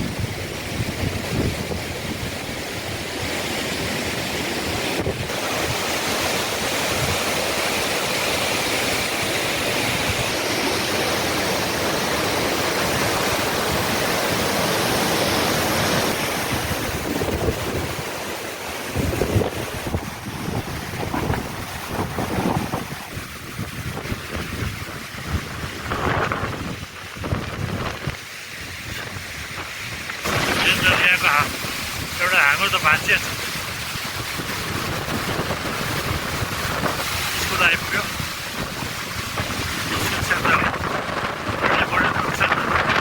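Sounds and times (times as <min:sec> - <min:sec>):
strong wind on microphone: 0:00.0 - 0:43.0.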